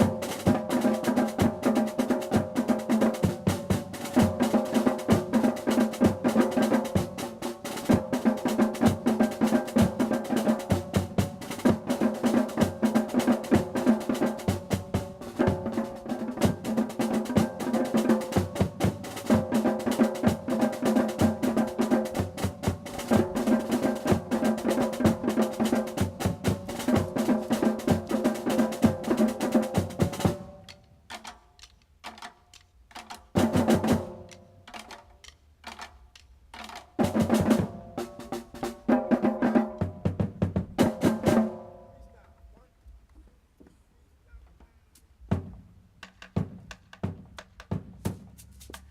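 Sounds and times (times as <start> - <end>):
drum line playing cadence: 0.0 - 43.0, 44.4 - 48.9.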